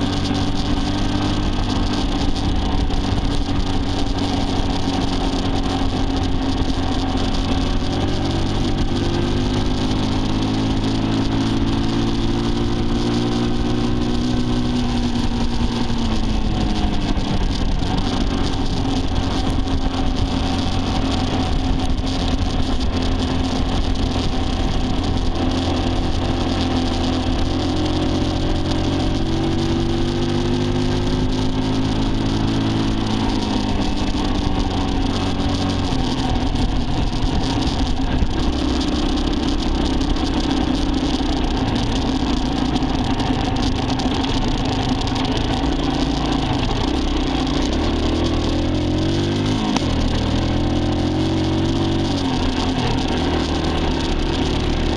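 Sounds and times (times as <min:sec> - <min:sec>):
vehicle engine running: 0:00.0 - 0:54.9
wind and road noise: 0:00.0 - 0:54.9.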